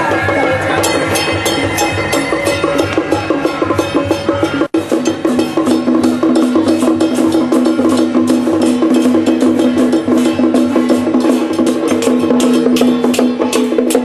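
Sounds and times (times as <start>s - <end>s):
fast dense percussion: 0.0s - 14.0s.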